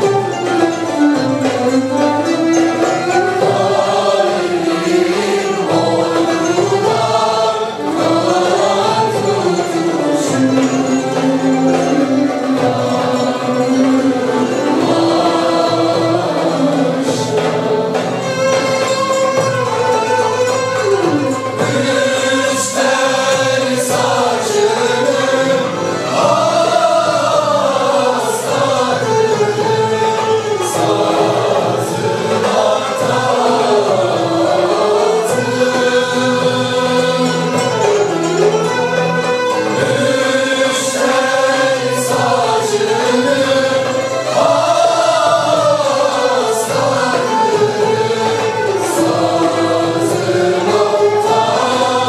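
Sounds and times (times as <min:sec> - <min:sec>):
cello: 0:00.0 - 0:52.0
mixed choir singing: 0:00.0 - 0:52.0
small string and drum ensemble: 0:00.0 - 0:52.0
violin: 0:00.0 - 0:52.0.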